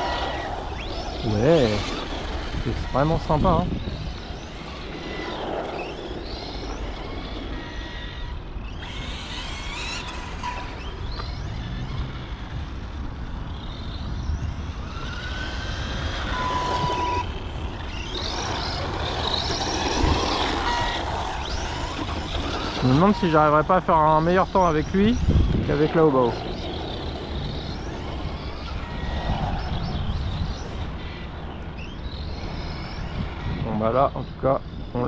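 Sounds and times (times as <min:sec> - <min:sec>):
electric motor whining: 0:00.0 - 0:35.0.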